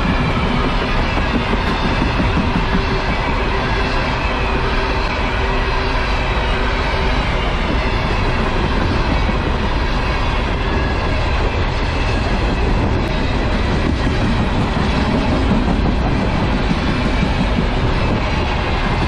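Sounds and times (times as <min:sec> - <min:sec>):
train cars rolling on rails: 0:00.0 - 0:19.0.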